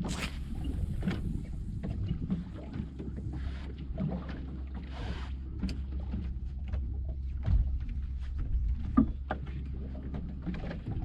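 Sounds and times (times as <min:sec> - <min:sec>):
boat engine low rumble: 0:00.0 - 0:11.0
rushing water or wind: 0:00.0 - 0:11.0.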